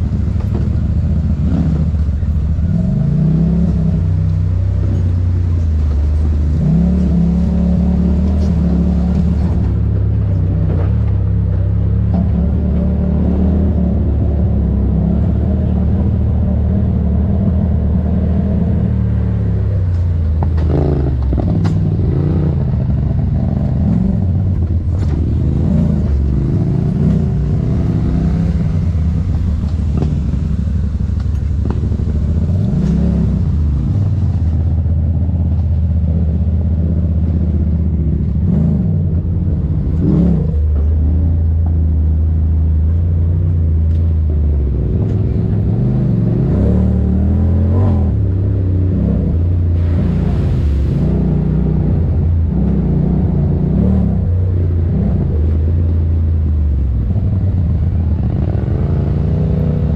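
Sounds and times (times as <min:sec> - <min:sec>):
utility vehicle engine revving: 0:00.0 - 0:59.9.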